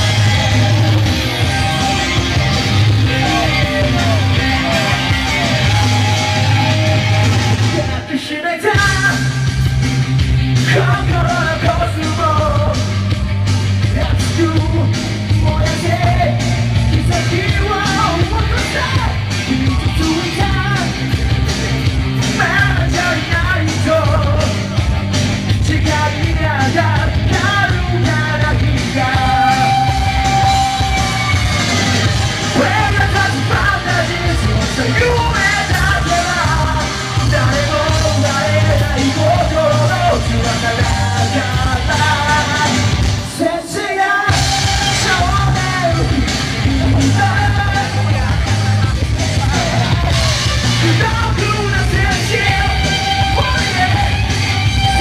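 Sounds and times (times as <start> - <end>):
man singing into a microphone: 0.0 - 9.6, 10.6 - 13.1, 13.8 - 21.3, 22.2 - 24.8, 25.5 - 31.0, 32.5 - 55.0
drums: 0.0 - 55.0
electric guitars: 0.0 - 55.0.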